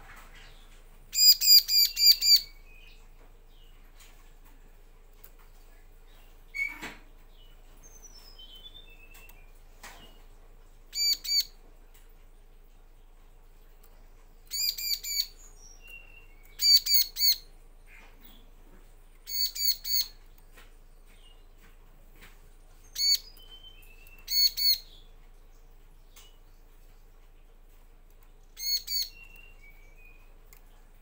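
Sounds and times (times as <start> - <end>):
bird chirping: 0.1 - 4.2, 5.2 - 11.6, 13.6 - 21.7, 22.7 - 27.3, 28.2 - 31.0.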